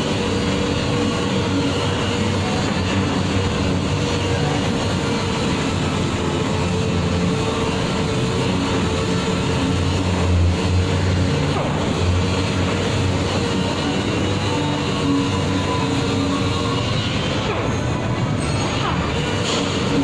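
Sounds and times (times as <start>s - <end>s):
orbital sander running: 0.0s - 17.8s.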